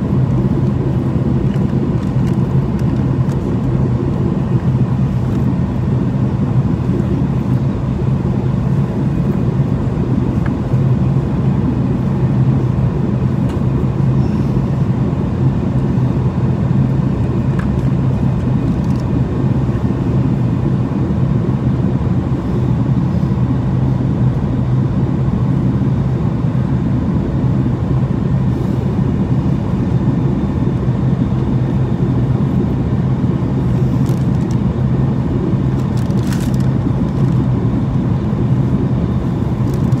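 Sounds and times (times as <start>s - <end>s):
jet engine drone: 0.0s - 40.0s.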